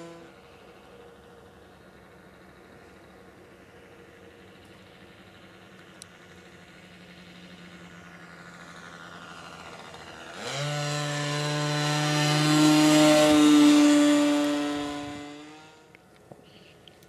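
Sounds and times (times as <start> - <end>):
model airplane engine at high revs: 0.0 - 16.0.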